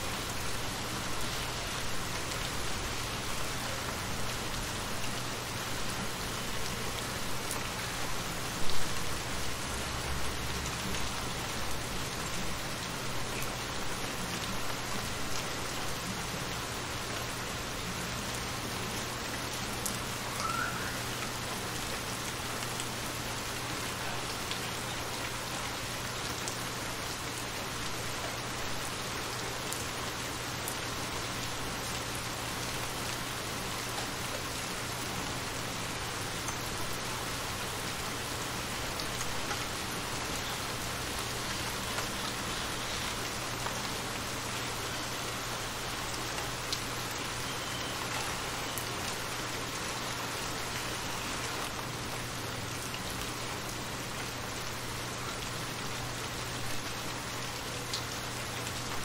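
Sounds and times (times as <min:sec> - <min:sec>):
rain falling onto water: 0:00.0 - 0:59.0.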